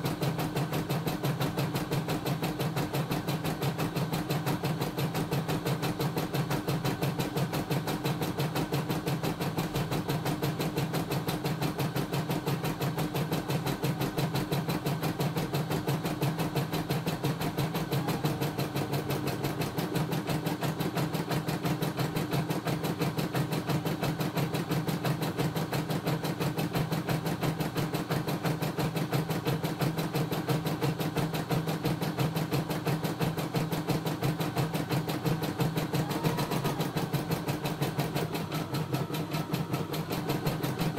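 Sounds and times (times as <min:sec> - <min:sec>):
embroidery machine stitching: 0:00.0 - 0:40.9.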